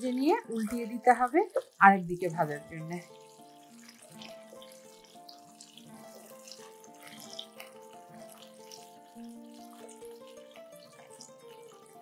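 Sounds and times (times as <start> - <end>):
fish sizzling in oil: 0.0 - 12.0
soft background music: 0.0 - 12.0.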